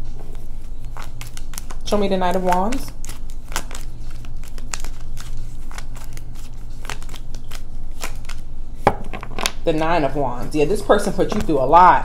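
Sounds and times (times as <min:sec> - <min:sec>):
cards being shuffled: 0:00.1 - 0:11.8.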